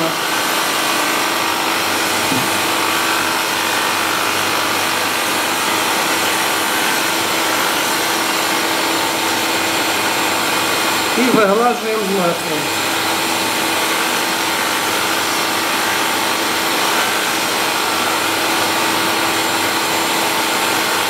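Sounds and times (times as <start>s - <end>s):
grinding stone whirring: 0.0s - 21.0s.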